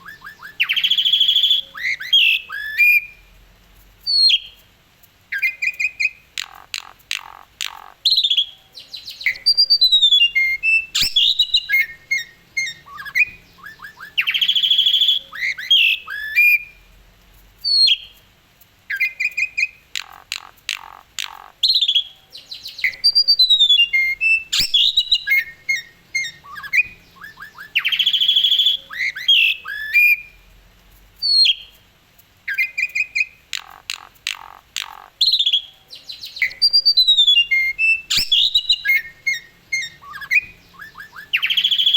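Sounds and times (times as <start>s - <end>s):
starling singing: 0.0s - 3.3s, 5.3s - 16.8s, 18.9s - 30.4s, 32.5s - 41.9s.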